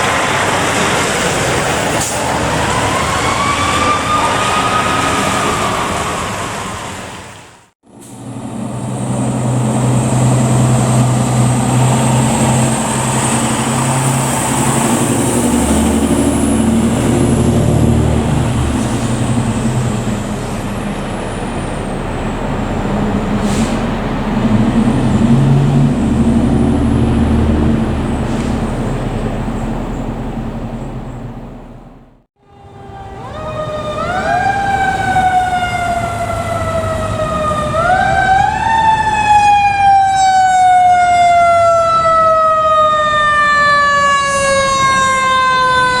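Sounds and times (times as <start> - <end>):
diesel truck engine accelerating: 0.0 - 46.0
road noise: 0.0 - 46.0.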